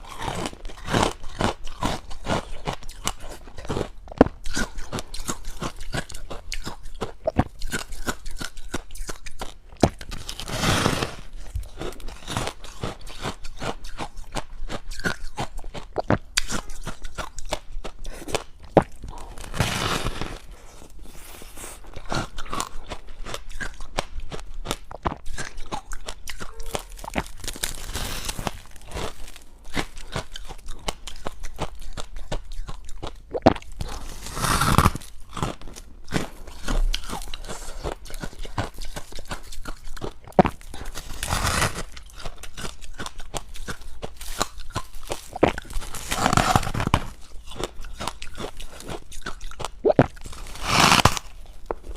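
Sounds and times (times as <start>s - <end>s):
chewing and crunching ice: 0.0s - 51.9s.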